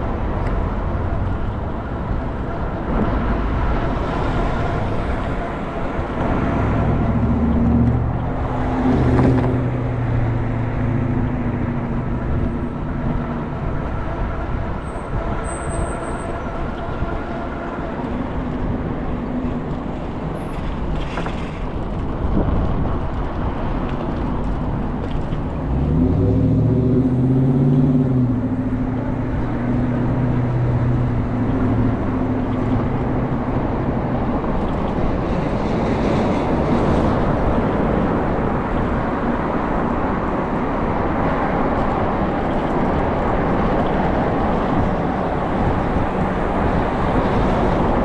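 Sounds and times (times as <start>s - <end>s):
road noise: 0.0s - 48.0s.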